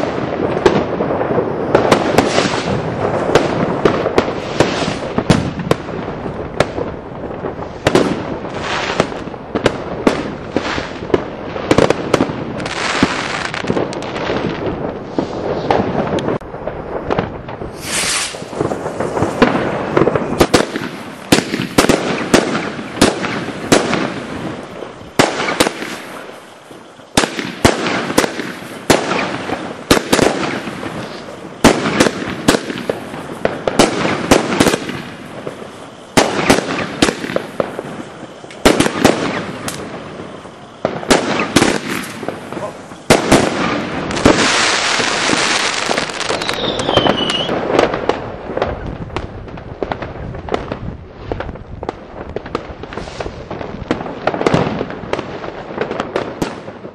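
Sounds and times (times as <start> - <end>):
crackling rumble: 0.0 - 56.9
firecrackers banging: 0.0 - 56.9
high hiss: 1.6 - 47.7, 52.8 - 54.4.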